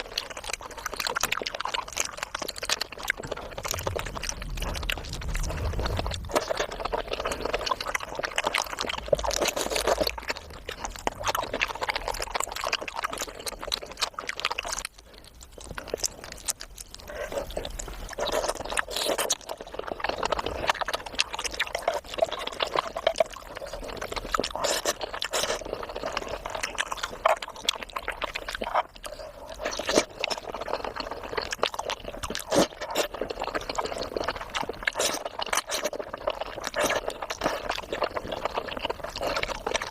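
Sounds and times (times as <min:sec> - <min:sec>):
wet chewing and mouth smacking: 0:00.0 - 0:39.9.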